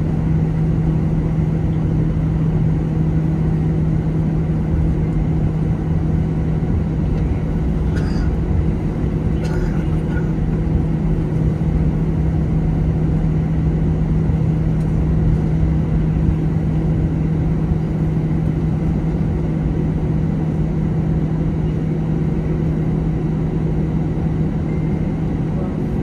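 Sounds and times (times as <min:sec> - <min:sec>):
jet engines idling: 0:00.0 - 0:26.0.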